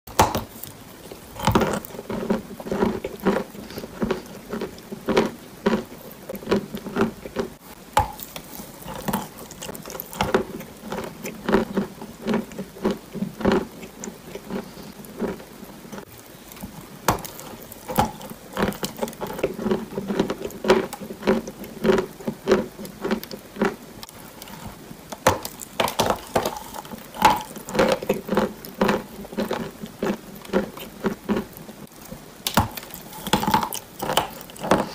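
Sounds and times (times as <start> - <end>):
crunchy chewing: 0.5 - 34.9.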